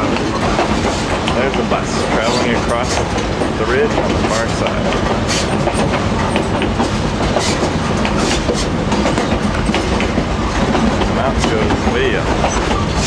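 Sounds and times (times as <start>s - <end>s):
train rumbling on track: 0.0s - 13.0s
wheels clacking over rail joints: 0.0s - 13.0s.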